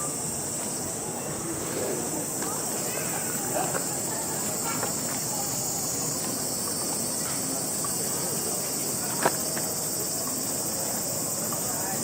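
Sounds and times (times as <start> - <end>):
insects chorus: 0.0 - 12.0
street noise murmur: 0.0 - 12.0.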